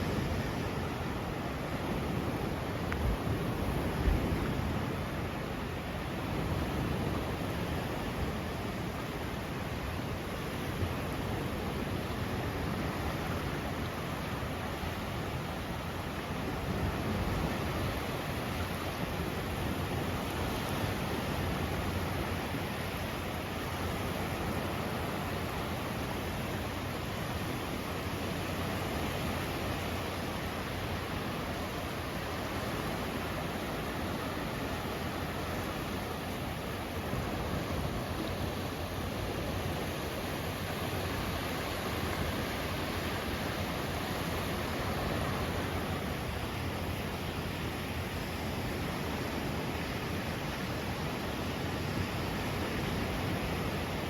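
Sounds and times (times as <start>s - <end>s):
sea surf washing on beach: 0.0s - 54.0s
wind rumble on microphone: 0.0s - 54.0s.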